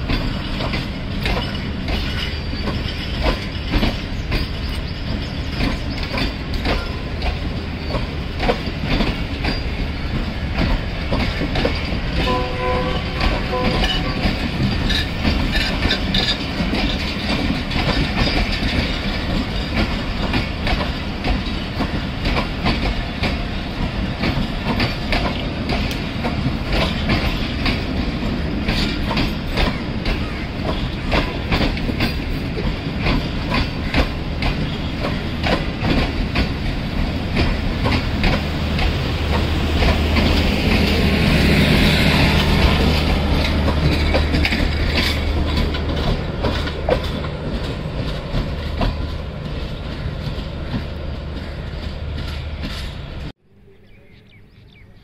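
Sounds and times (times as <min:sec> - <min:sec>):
train wheels clacking over rail joints: 0:00.0 - 0:53.3.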